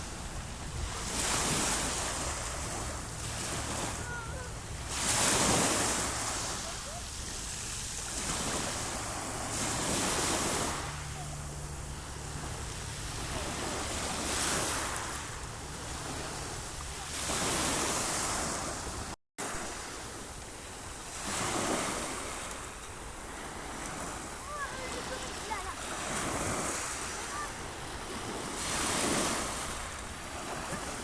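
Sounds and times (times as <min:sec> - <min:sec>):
sea waves washing onto shore: 0:00.0 - 0:31.0.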